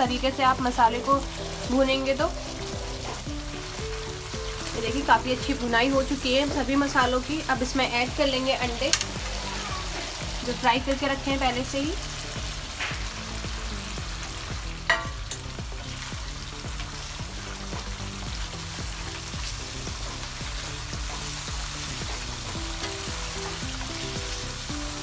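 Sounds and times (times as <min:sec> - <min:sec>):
gravy sizzling in a pan: 0:00.0 - 0:25.0
soft background music: 0:00.0 - 0:25.0.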